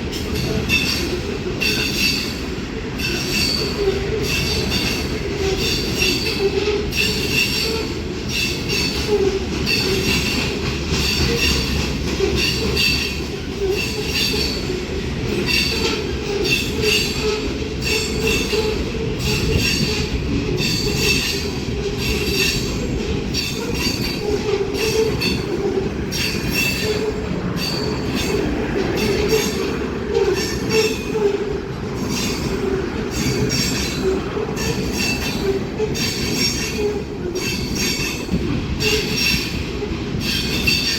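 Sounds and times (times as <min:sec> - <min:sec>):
train cars rumbling past: 0:00.0 - 0:40.9
train wheel clicks: 0:00.2 - 0:40.9
metal wheel squeal: 0:03.0 - 0:40.9.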